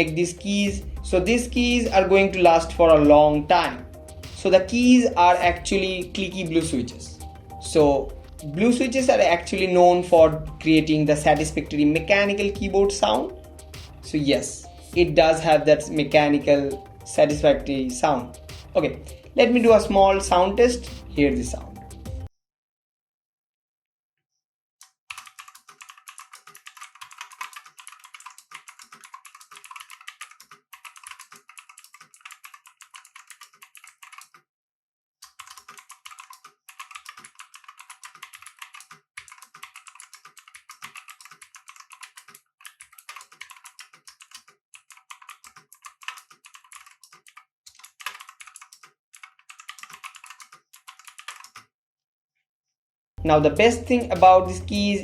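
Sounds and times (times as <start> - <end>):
clicky keyboard typing: 0.0 - 22.2, 24.8 - 34.4, 35.2 - 51.7.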